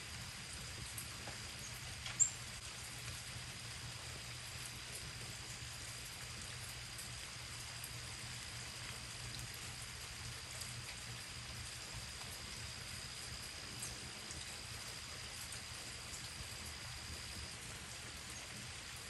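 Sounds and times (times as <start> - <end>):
light drizzle falling: 0.0 - 19.0.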